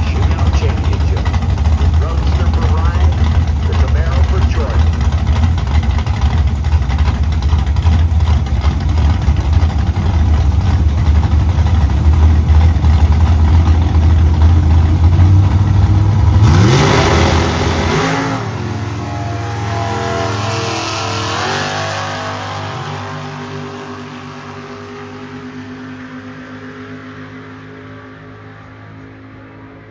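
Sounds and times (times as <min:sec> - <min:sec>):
engines revving through gear changes: 0:00.0 - 0:29.2
drag racing cars engines rumbling: 0:00.0 - 0:29.9.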